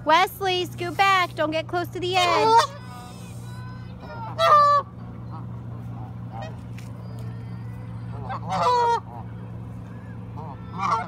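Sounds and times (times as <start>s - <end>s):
geese honking: 2.0s - 11.0s.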